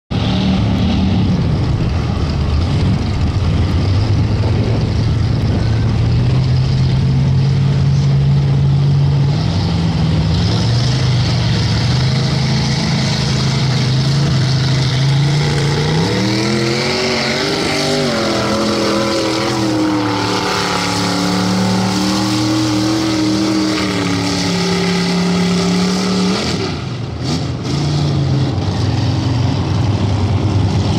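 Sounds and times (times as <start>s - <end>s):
pickup truck engine revving: 0.1s - 30.9s.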